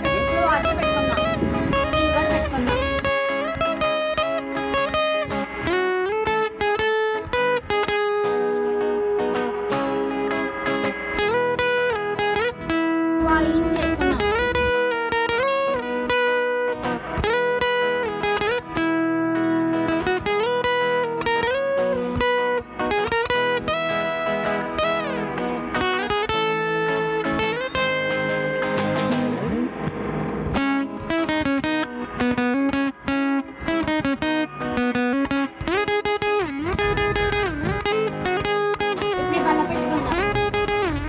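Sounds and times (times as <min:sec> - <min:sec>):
plucked guitar melody: 0:00.0 - 0:41.0.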